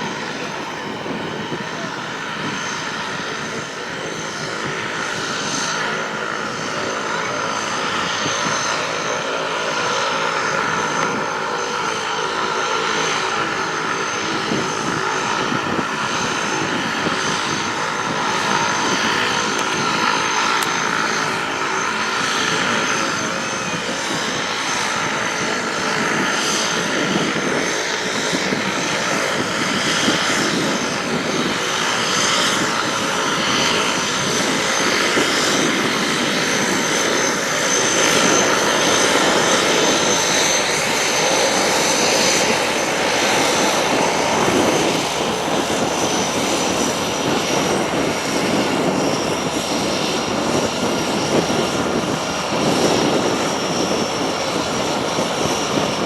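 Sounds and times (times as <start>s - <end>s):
propeller engine drone: 0.0s - 56.0s.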